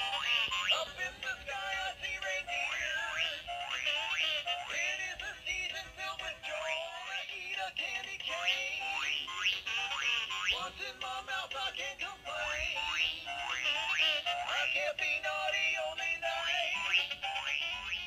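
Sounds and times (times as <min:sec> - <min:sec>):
toy singing through small speaker: 0:00.0 - 0:18.0.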